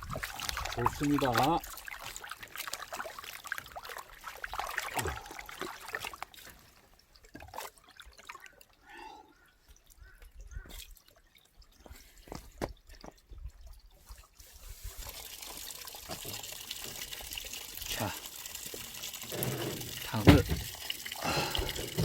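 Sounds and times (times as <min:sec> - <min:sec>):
water dripping: 0:00.0 - 0:22.0
water trickling and splashing: 0:00.0 - 0:22.0.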